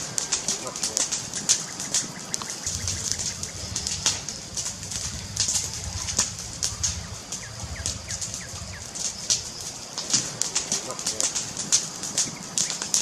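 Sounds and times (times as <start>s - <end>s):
bird chirping: 0.0s - 13.0s
fireplace fire crackling: 0.0s - 13.0s.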